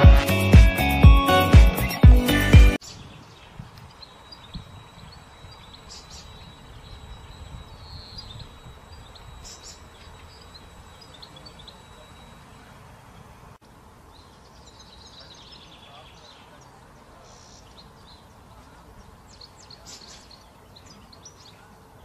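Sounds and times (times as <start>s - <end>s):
faint bird chirps: 2.8s - 13.5s, 14.2s - 22.0s.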